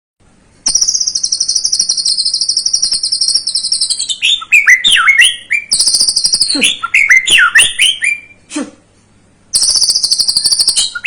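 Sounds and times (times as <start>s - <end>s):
bird trilling: 0.6s - 8.5s, 9.5s - 11.0s
bird swooping whistles: 0.7s - 8.4s, 9.6s - 11.0s.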